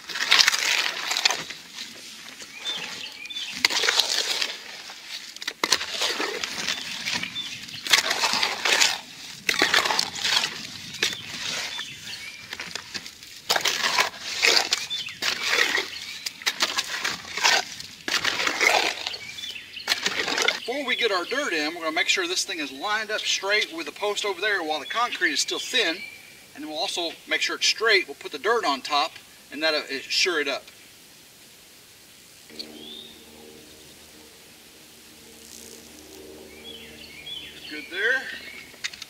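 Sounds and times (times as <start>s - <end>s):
hoe scraping wet concrete: 0.0s - 25.9s, 32.5s - 39.0s.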